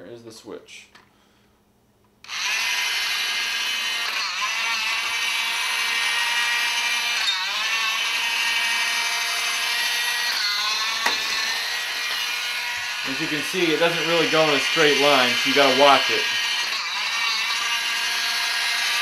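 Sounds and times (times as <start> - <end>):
toy motor whirring: 2.2 - 19.0.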